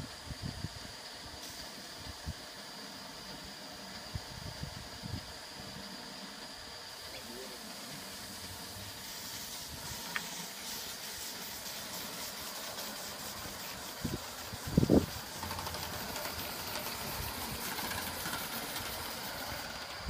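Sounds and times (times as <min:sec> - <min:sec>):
steam hissing: 0:00.0 - 0:20.0.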